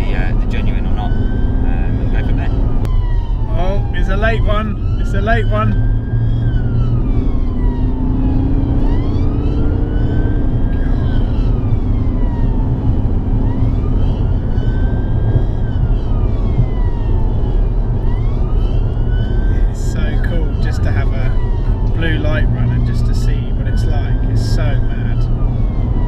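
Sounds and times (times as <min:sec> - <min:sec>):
police siren wailing: 0:00.0 - 0:26.0
road and engine rumble: 0:00.0 - 0:26.0.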